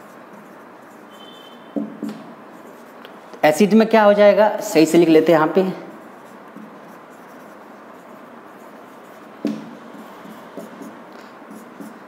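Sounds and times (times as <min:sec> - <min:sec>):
marker writing on whiteboard: 0:00.0 - 0:03.1, 0:05.2 - 0:12.0.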